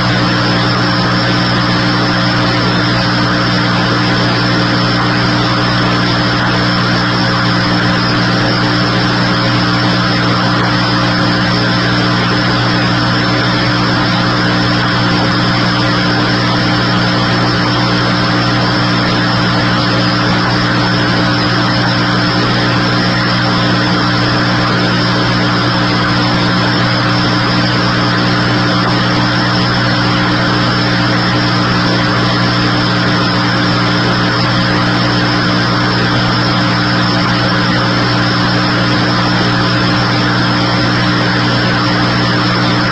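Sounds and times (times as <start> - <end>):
steady mechanical drone: 0.0 - 42.9.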